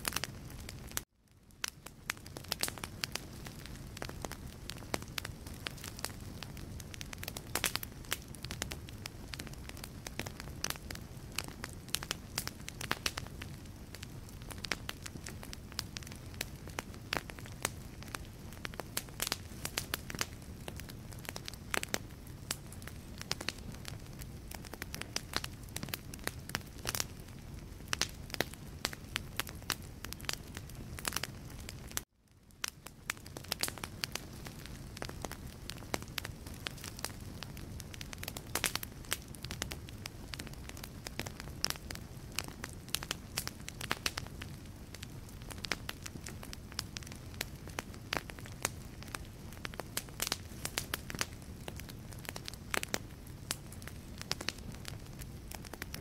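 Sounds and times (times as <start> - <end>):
low hiss of flames: 0.0 - 56.0
wood fire crackling and popping: 0.0 - 56.0.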